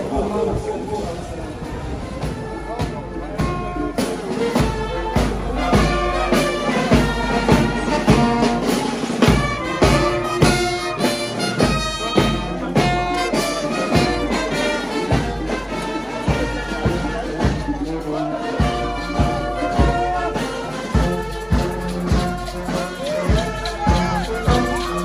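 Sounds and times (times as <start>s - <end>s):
trumpets and trombones: 0.0s - 25.0s
bass and snare drums: 2.0s - 25.0s.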